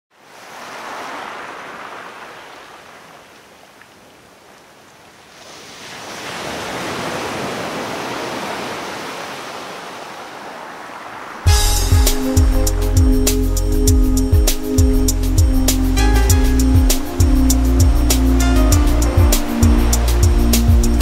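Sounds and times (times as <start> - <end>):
sea waves washing in: 0.1 - 4.5, 5.2 - 21.0.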